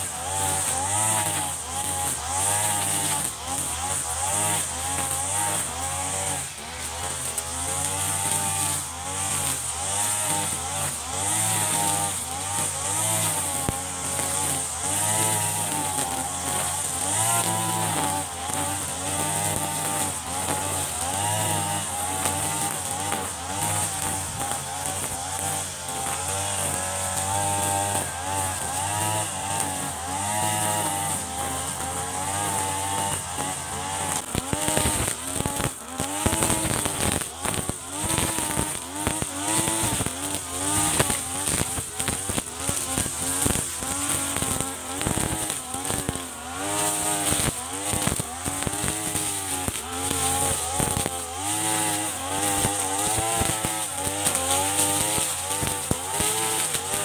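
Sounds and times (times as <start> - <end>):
brush cutter engine revving: 0.0 - 57.0.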